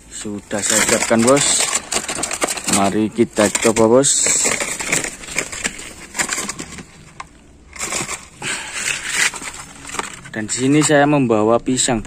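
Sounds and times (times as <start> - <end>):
paper bag rustling: 0.4 - 11.1.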